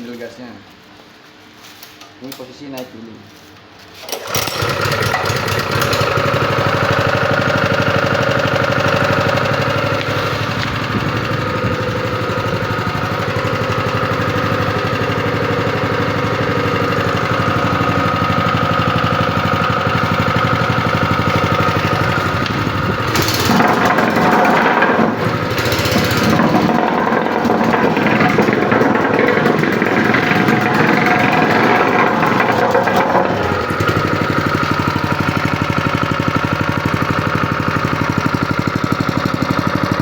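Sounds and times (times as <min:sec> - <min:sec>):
tamping rammer engine running: 0:04.1 - 0:40.0.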